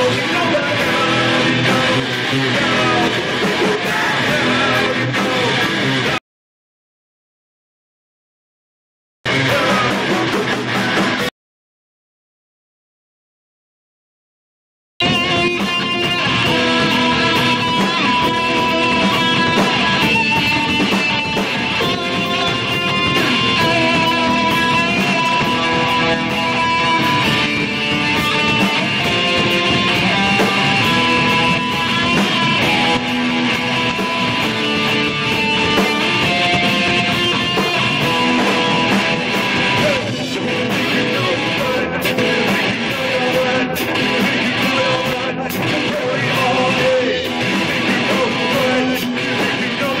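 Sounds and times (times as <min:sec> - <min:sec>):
electric guitar: 0:00.0 - 0:06.2, 0:09.3 - 0:11.3, 0:15.0 - 0:50.0
live band playing: 0:00.0 - 0:06.2, 0:09.3 - 0:11.3, 0:15.0 - 0:50.0.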